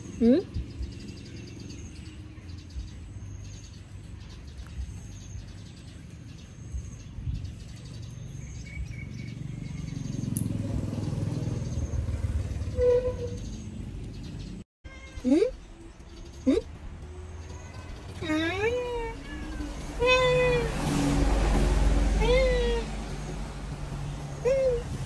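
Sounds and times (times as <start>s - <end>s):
small birds chirping: 0.0s - 20.7s.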